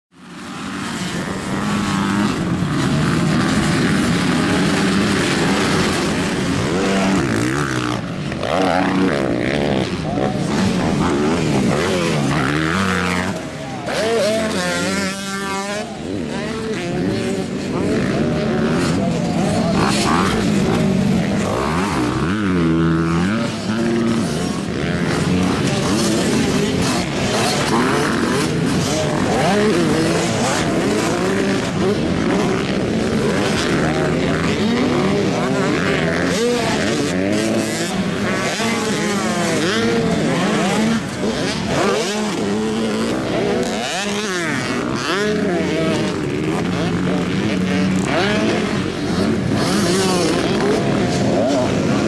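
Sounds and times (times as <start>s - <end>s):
dirt bike engines running: 0.1s - 52.0s
dirt bike revving: 0.1s - 52.0s.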